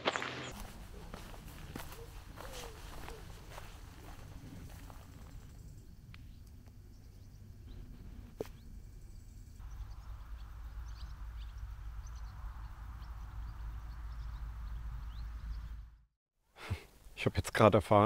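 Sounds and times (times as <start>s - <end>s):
bird chirps: 0.4s - 15.9s.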